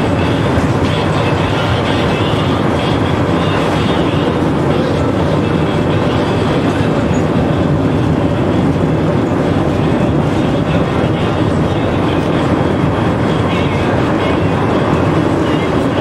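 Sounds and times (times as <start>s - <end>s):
tram wheels on rails: 0.0s - 16.0s.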